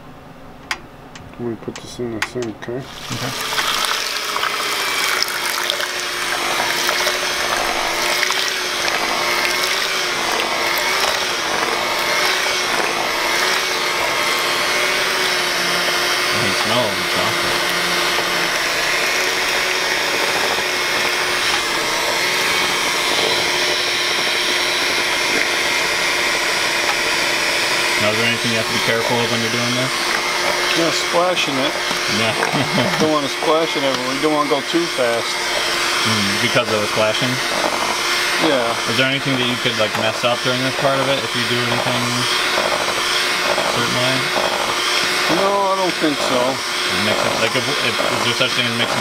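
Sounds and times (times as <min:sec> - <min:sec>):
churning liquid whir: 0:02.8 - 0:49.0
electric mixer motor hum: 0:02.8 - 0:49.0.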